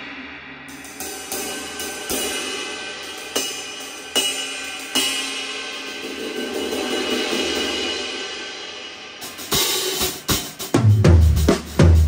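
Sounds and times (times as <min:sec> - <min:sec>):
cymbals struck with drumsticks: 0:00.0 - 0:12.0.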